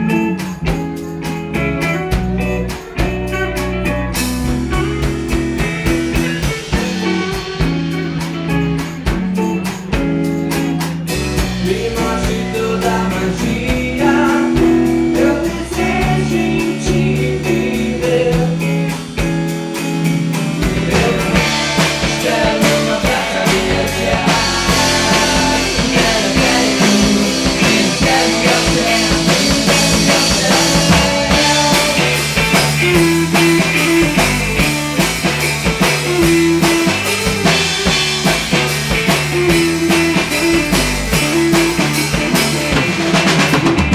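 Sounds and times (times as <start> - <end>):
pop-rock band music: 0.0 - 43.9.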